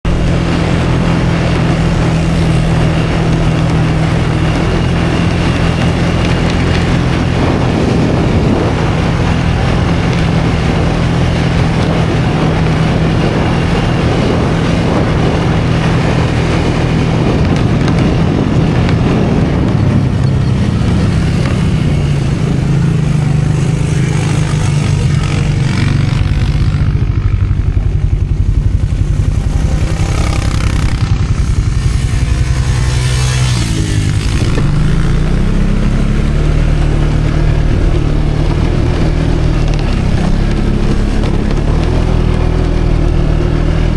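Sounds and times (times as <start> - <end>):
engine running under load: 0.0 - 43.9
rushing noise: 0.0 - 43.9.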